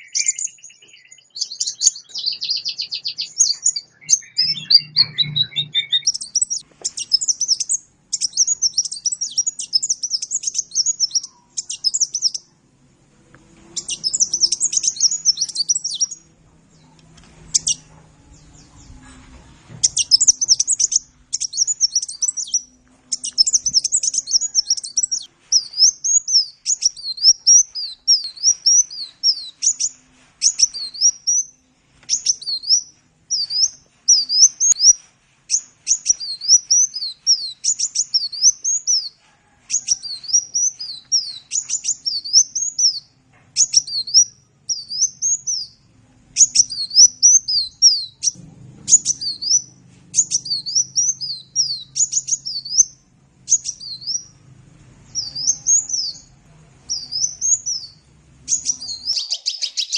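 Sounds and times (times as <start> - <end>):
bird twittering song: 0.0 - 12.6, 13.7 - 45.8, 46.4 - 54.4, 55.1 - 59.9.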